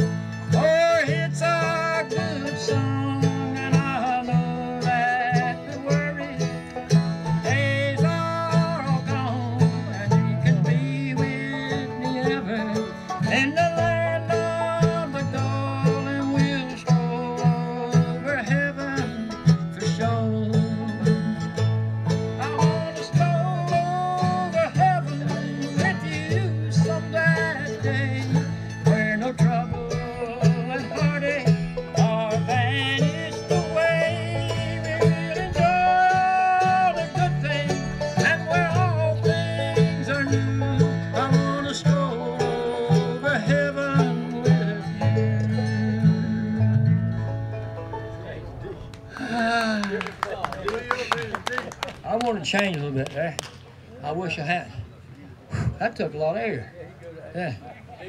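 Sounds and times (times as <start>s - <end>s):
banjo: 0.0s - 54.9s
mandolin: 0.0s - 54.9s
upright bass plucking: 0.0s - 54.9s
acoustic guitar: 0.0s - 57.9s.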